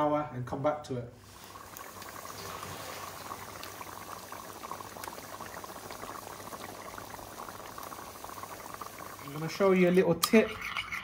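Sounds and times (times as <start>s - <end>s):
curry bubbling in a pot: 1.2s - 11.0s.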